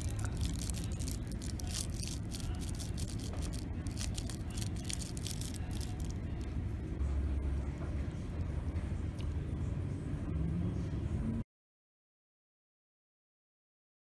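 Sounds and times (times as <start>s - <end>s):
low steady hum: 0.0s - 11.4s.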